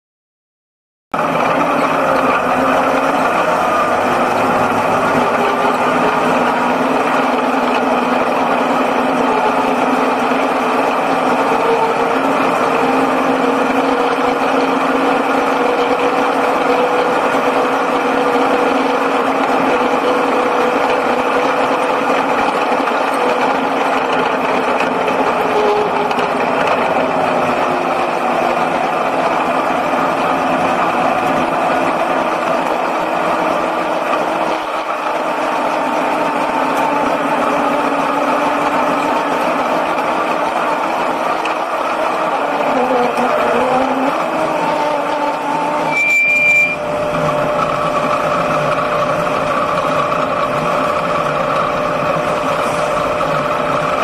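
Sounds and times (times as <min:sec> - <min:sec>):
race car engine running hard: 0:01.2 - 0:46.0, 0:46.6 - 0:54.0.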